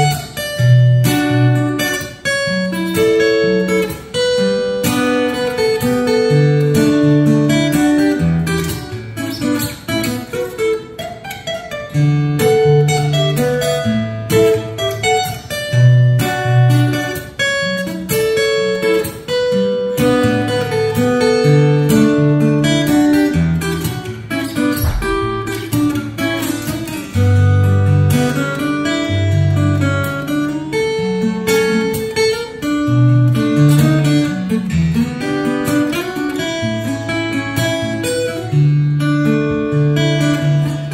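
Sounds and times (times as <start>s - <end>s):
fingerstyle acoustic guitar: 0.0s - 40.9s.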